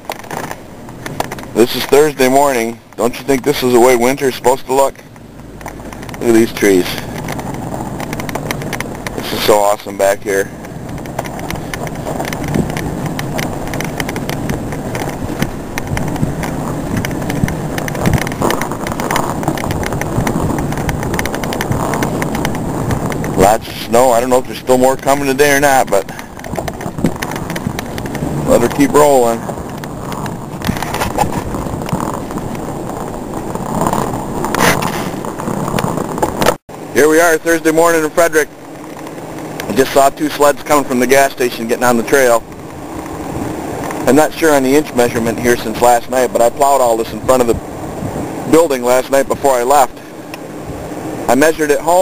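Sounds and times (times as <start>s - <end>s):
small clicks and rattles: 0.0s - 36.6s, 37.2s - 47.6s
truck engine and tyres rumbling: 0.0s - 52.0s.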